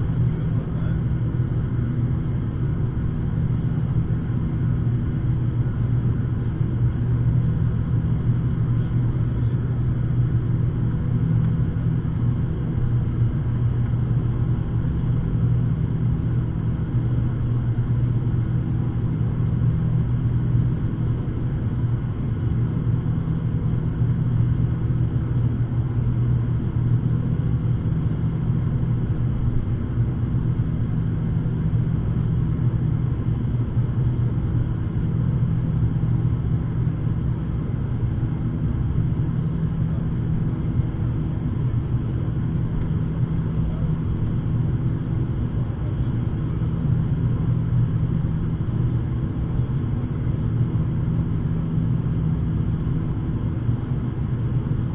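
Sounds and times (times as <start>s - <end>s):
turboprop engines droning: 0.0s - 54.9s.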